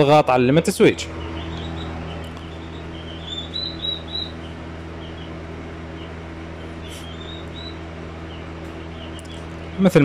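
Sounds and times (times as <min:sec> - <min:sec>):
low electrical hum: 0:00.0 - 0:10.0
small bird chirping: 0:00.9 - 0:09.8.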